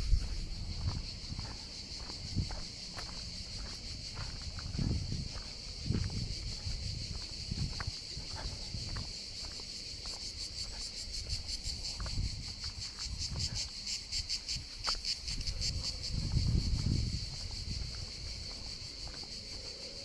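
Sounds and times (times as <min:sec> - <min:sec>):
insects buzzing: 0:00.0 - 0:20.0
rapid pulsing insect chirp: 0:00.0 - 0:20.0.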